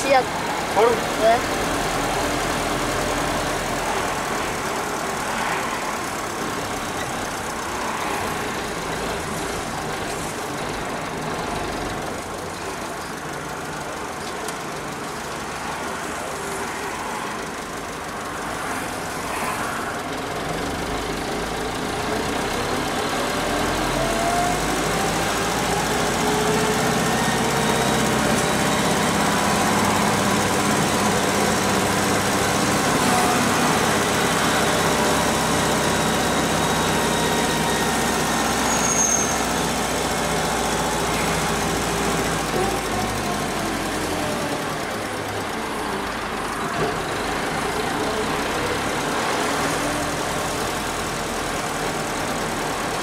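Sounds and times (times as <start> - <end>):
diesel van engine running: 0.0 - 53.0.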